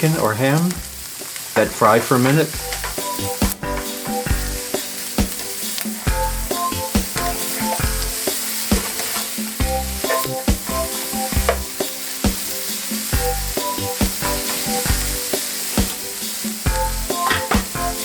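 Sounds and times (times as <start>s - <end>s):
food sizzling in a frying pan: 0.0s - 18.0s
music with a steady beat: 2.6s - 18.0s.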